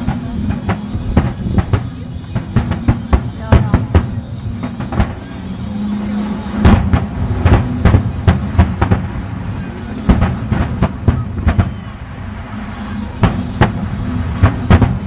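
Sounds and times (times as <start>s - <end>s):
fireworks bangs: 0.0s - 15.0s
low rumble: 0.0s - 15.0s.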